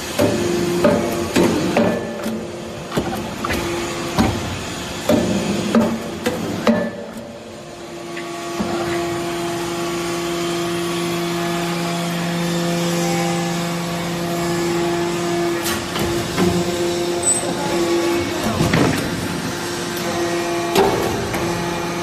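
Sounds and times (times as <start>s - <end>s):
hydraulic hum: 0.0s - 22.0s.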